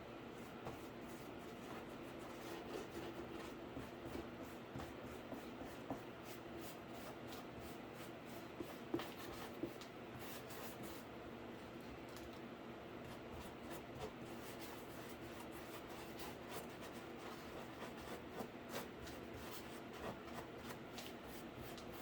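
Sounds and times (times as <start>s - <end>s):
paintbrush strokes on cardboard: 0.3s - 11.1s, 13.1s - 22.0s.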